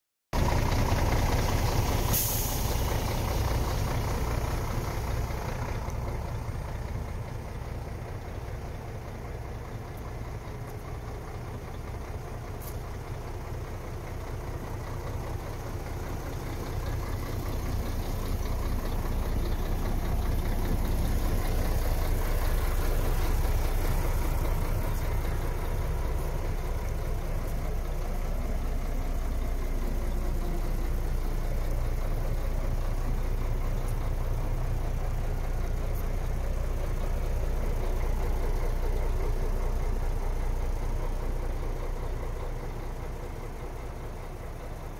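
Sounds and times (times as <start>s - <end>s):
diesel truck engine idling: 0.4s - 44.9s.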